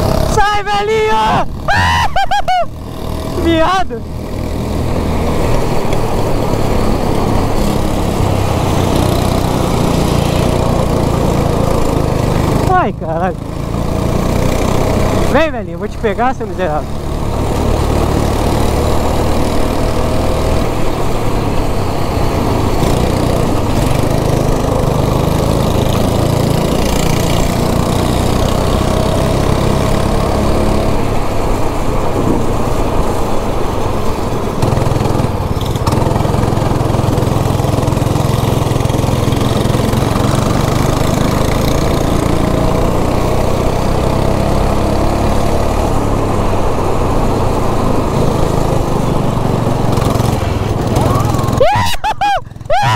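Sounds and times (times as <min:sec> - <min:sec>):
go-kart engine droning: 0:00.0 - 0:52.9.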